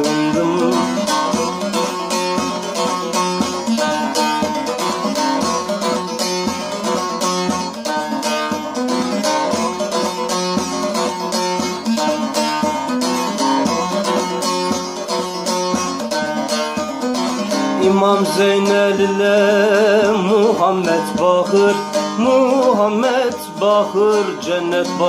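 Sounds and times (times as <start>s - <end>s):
long-necked lute strummed rapidly: 0.0s - 25.0s.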